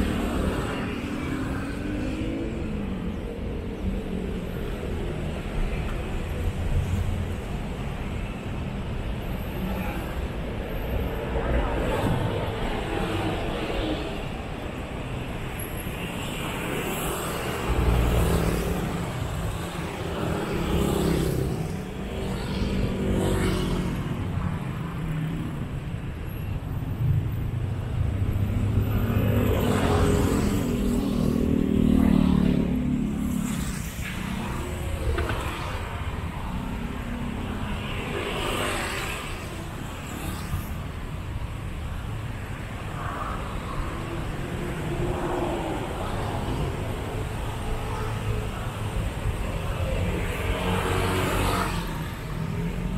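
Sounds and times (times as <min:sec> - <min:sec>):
road traffic rumble: 0:00.0 - 0:52.9
vehicles passing: 0:00.0 - 0:52.9.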